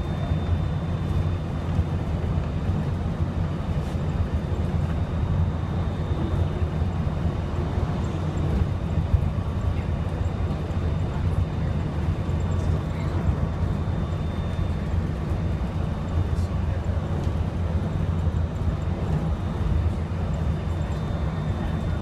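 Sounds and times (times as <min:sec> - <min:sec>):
faint high whine: 0:00.0 - 0:02.0, 0:02.7 - 0:22.0
train low rumble: 0:00.0 - 0:22.0.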